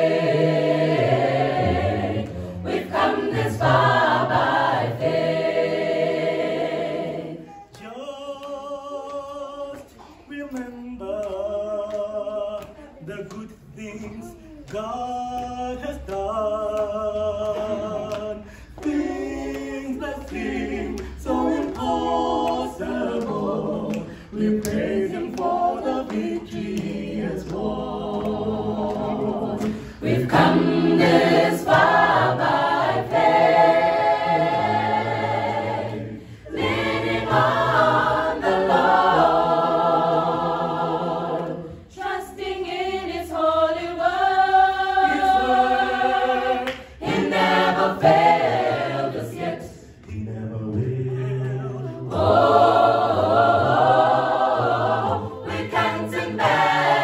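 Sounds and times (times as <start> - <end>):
mixed choir singing a cappella: 0.0 - 57.0.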